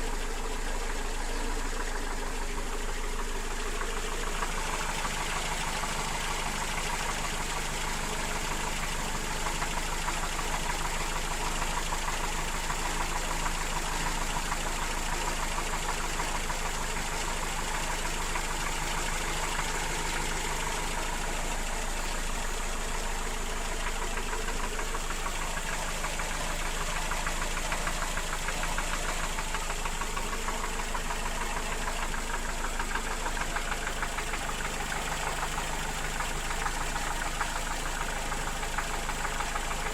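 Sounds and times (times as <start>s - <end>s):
petrol engine running with knock: 0.0s - 39.9s.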